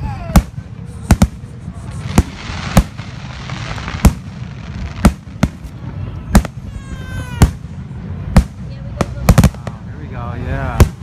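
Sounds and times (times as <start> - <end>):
crackling fizz of fireworks: 0.0 - 11.0
fireworks bangs: 0.0 - 11.0.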